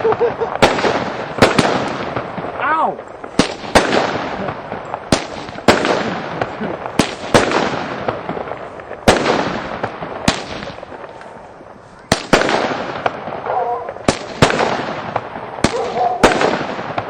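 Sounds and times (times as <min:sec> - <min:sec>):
fireworks banging: 0:00.0 - 0:17.0
fireworks crackling: 0:00.0 - 0:17.0.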